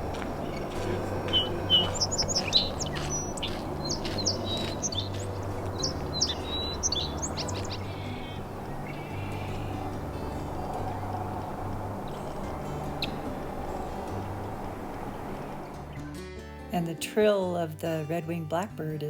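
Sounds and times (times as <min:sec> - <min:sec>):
low steady hum: 0:00.0 - 0:16.0
songbirds chirping: 0:00.0 - 0:16.2.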